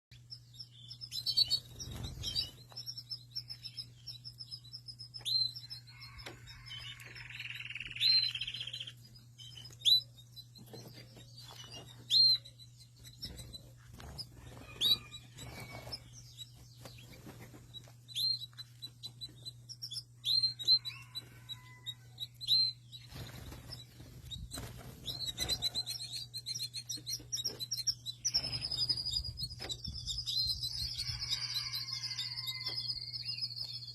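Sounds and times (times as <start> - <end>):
canary chirping: 0.1 - 33.9
canary trills: 1.0 - 33.9.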